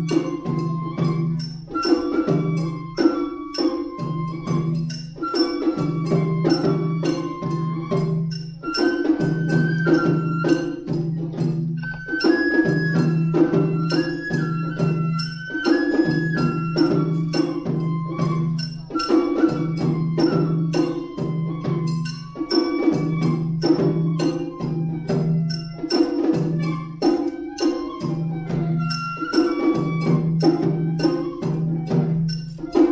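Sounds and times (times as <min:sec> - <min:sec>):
bamboo flute melody: 0:00.0 - 0:32.9
taiko drums beating: 0:00.0 - 0:32.9.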